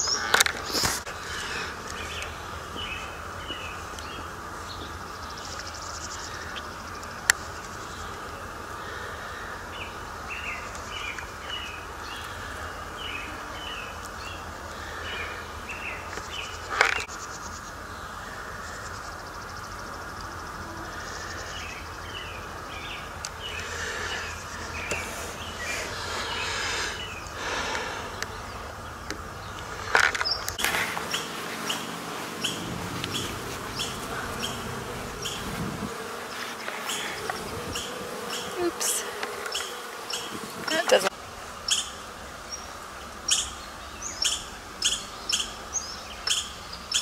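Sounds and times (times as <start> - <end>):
insects buzzing: 0.0 - 47.0
songbirds chirping: 0.0 - 47.0.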